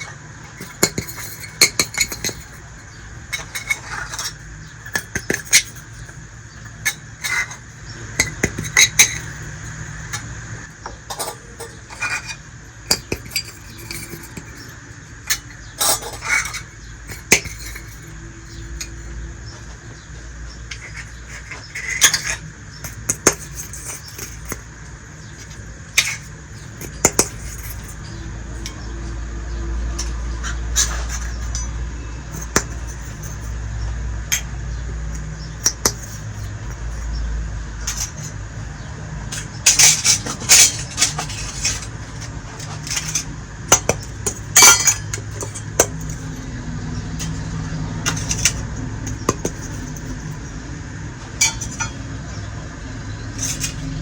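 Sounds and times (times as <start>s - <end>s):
tiny dishes clicking and clinking: 0.0s - 50.6s, 51.3s - 52.6s, 53.2s - 54.0s
steady low hum: 0.0s - 54.0s.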